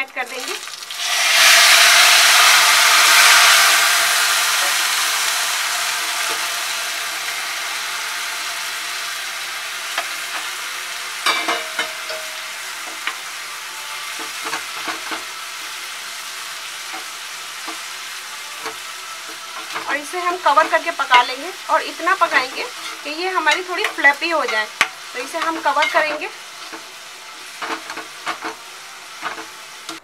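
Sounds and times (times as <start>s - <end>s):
syrup sizzling in pan: 0.0s - 30.0s.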